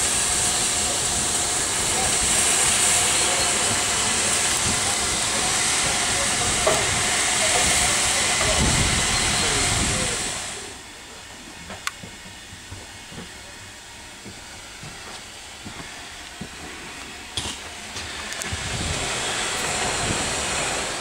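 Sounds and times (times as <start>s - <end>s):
train coaches rolling past: 0.0s - 21.0s.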